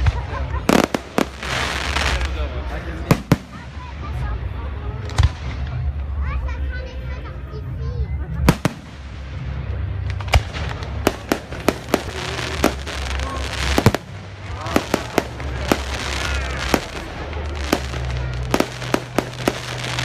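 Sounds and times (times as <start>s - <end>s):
fireworks bursting: 0.0s - 6.2s, 8.4s - 20.0s.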